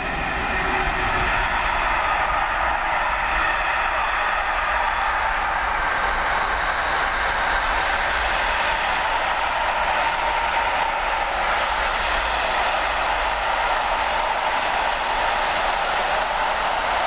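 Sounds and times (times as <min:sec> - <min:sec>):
steel train wheels on rails: 0:00.0 - 0:17.0.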